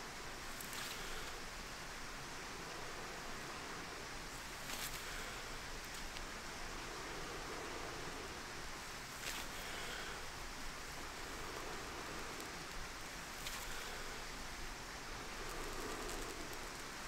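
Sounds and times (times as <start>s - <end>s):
faint crackles: 0.0s - 17.0s.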